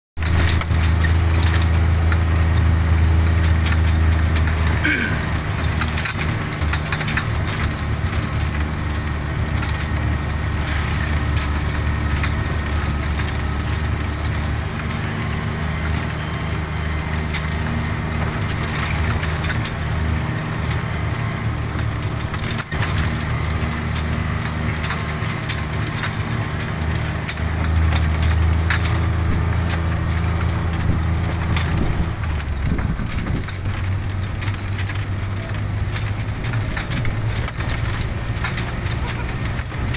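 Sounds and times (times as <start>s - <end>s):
small clicks and rattles: 0.2s - 39.9s
vehicle engine running: 0.2s - 39.9s.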